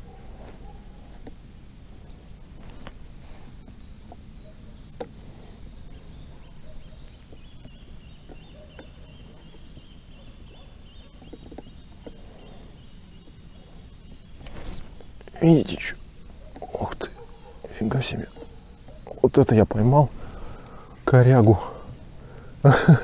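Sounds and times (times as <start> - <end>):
low steady background noise: 0.0 - 23.0
faint bird calls: 2.0 - 23.0.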